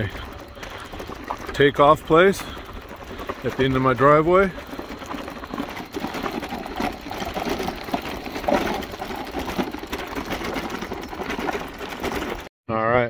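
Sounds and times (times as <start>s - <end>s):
bicycle tyres crunching on gravel: 0.0s - 12.5s.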